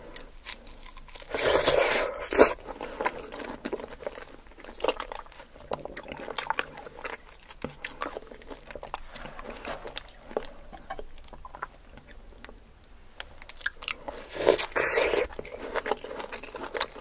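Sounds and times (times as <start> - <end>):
mouth chewing fruit: 0.0 - 17.0.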